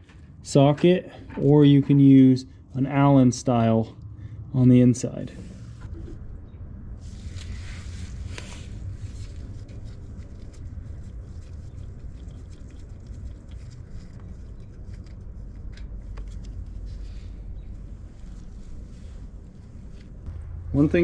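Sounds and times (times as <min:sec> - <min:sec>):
low rumble: 0:02.5 - 0:12.4, 0:13.0 - 0:21.0.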